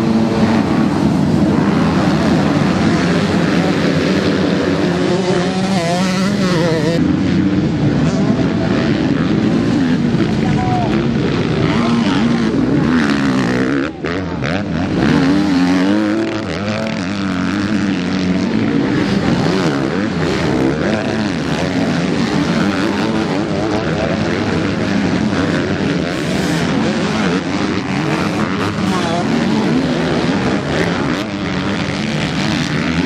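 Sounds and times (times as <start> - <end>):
motocross bikes revving: 0.0 - 33.0.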